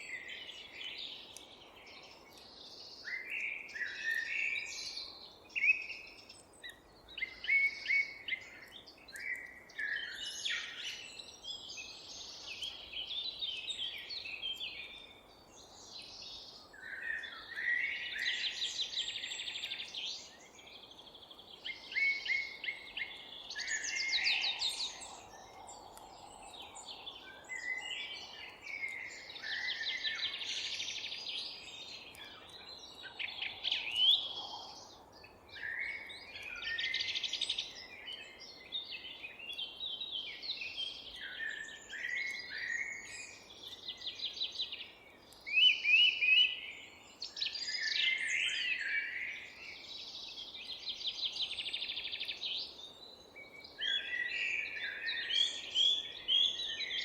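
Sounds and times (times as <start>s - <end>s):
songbirds singing and trilling: 0.0s - 57.0s.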